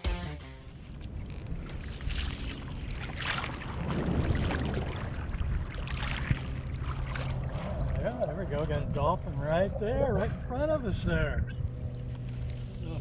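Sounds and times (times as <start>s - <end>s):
water splashing and lapping: 0.7s - 10.6s, 11.6s - 13.0s
wind on microphone: 0.9s - 13.0s.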